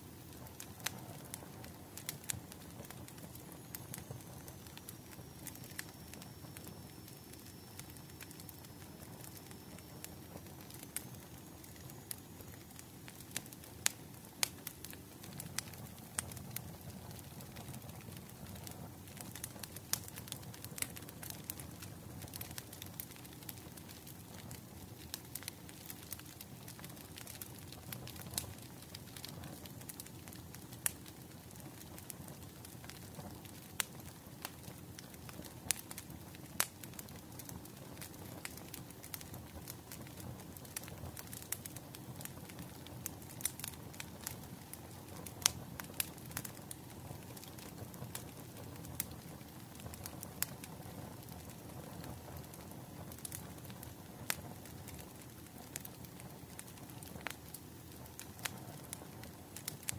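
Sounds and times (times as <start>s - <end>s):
wood fire crackling: 0.0s - 59.9s
fire pops and snaps: 0.2s - 59.9s.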